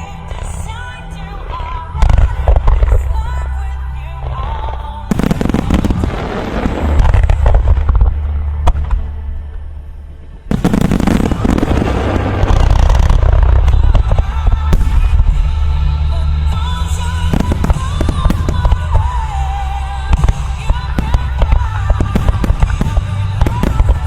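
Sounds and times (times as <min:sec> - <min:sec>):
fireworks bursting and crackling: 0:00.0 - 0:03.5, 0:04.2 - 0:24.0
low rumble: 0:00.0 - 0:24.0.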